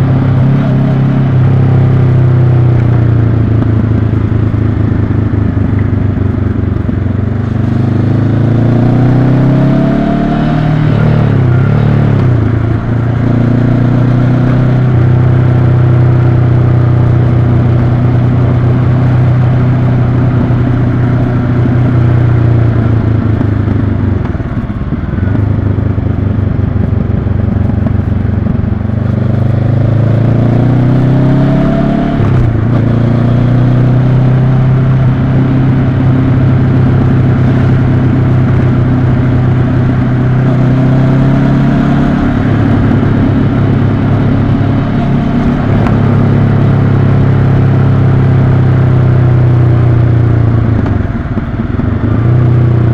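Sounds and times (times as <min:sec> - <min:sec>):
motorcycle engine drone: 0:00.0 - 0:52.9.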